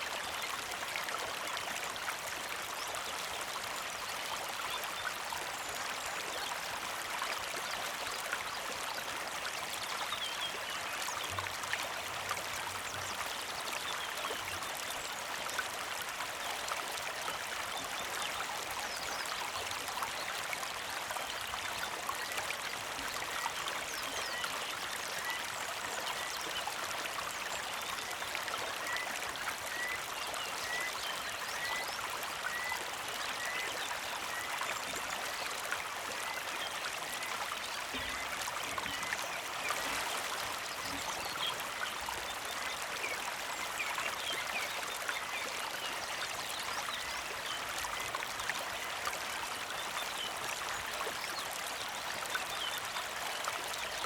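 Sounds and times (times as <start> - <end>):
creek trickling and burbling: 0.0 - 54.0.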